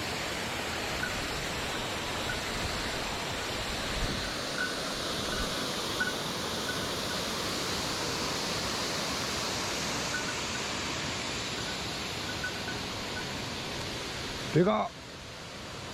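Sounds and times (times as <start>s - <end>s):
stream water rushing: 0.0s - 15.9s.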